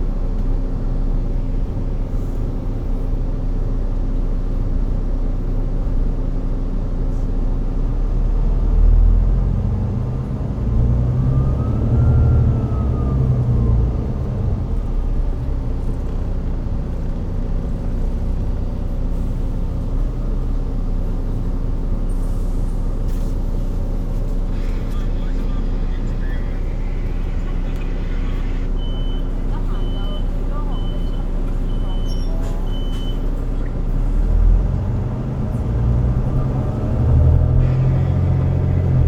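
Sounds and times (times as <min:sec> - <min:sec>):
bus diesel engine humming: 0:00.0 - 0:39.0.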